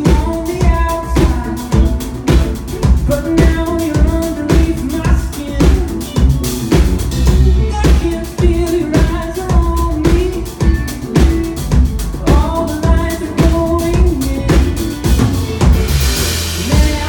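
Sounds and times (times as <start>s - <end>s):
drum kit beat: 0.0s - 17.0s
live pop band playing: 0.0s - 17.0s.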